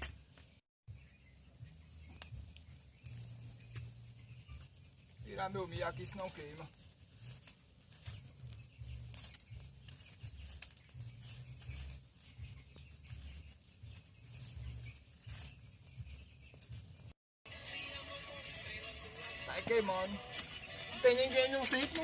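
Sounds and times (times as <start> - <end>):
crickets chirping: 0.9 - 22.0.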